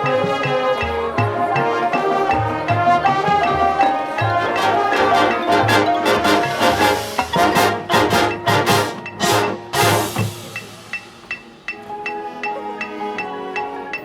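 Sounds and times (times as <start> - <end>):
sharp percussion hits: 0.0 - 12.2
marching band playing: 0.0 - 13.3.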